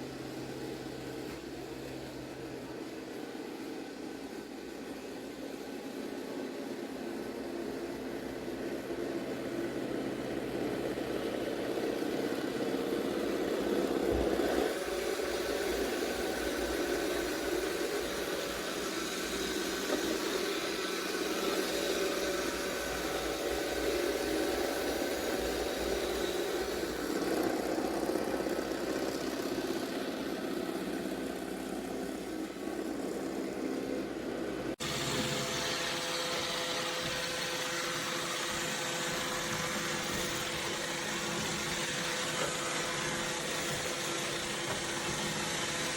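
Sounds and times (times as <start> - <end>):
robot vacuum humming: 0.0 - 45.9.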